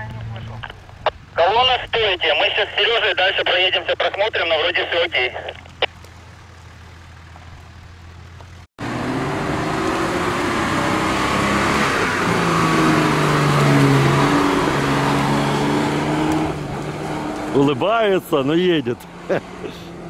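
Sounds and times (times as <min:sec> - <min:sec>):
off-road vehicle engine: 0:00.0 - 0:20.0.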